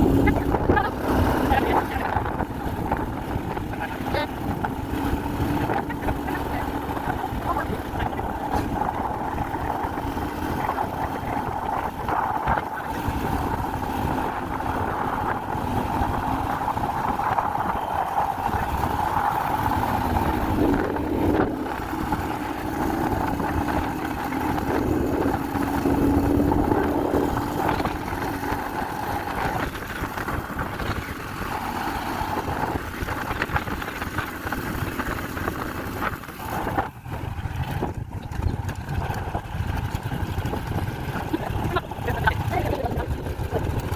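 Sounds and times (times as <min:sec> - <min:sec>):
vehicle engine and road noise: 0:00.0 - 0:43.9.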